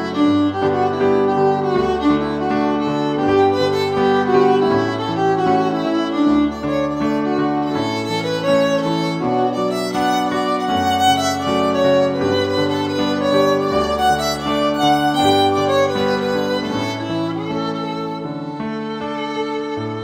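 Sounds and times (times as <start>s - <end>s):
violin melody: 0.0s - 20.0s.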